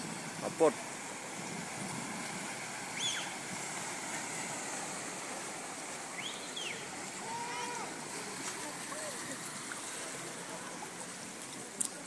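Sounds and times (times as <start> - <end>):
cars wading through water: 0.0 - 12.0
rainwater rushing on street: 0.0 - 12.0.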